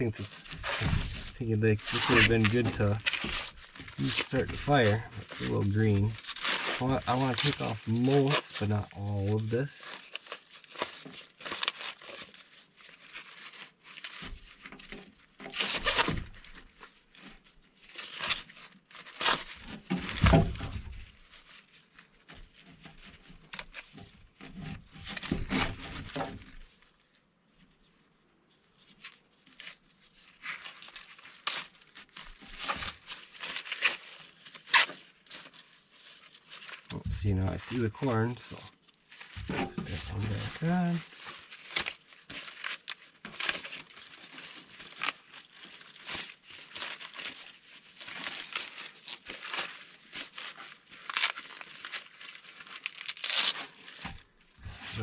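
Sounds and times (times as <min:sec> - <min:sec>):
corn husks tearing and rustling: 0:00.0 - 0:55.0.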